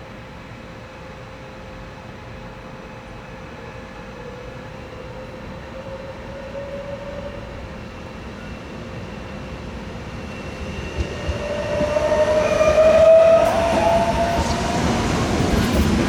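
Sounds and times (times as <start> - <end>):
freight train rumble: 0.0 - 16.0
train wheels squealing: 2.8 - 16.0.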